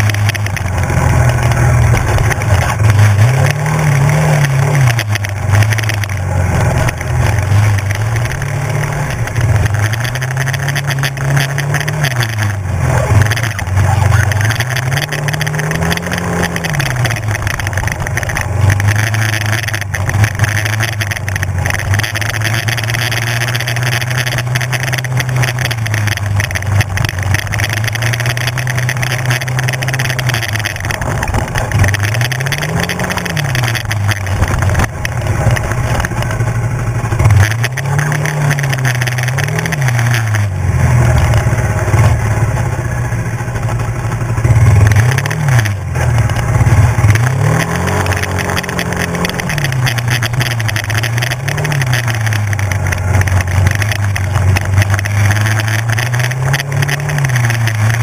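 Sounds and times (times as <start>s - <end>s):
quad engine running: 0.0s - 58.0s
tyre noise: 0.0s - 58.0s
wind: 0.0s - 58.0s.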